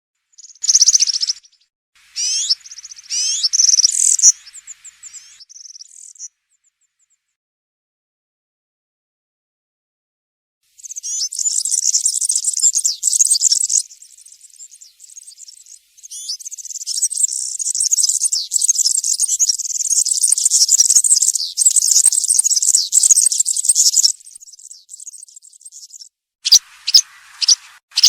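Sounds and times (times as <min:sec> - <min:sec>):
bird singing jingling song: 0:00.3 - 0:07.2, 0:10.8 - 0:28.0.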